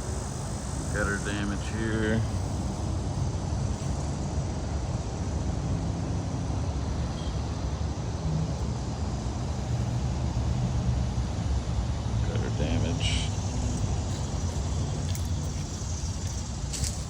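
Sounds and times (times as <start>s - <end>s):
faint hum: 0.0s - 17.0s
low outdoor rumble: 0.0s - 17.0s.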